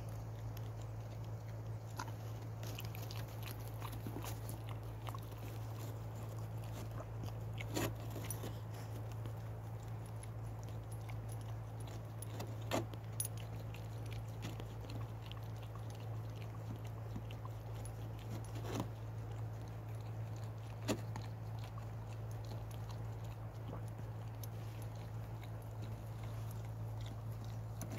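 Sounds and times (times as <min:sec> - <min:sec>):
steady low hum: 0:00.0 - 0:27.9
dog teeth scraping on bone: 0:00.4 - 0:27.9.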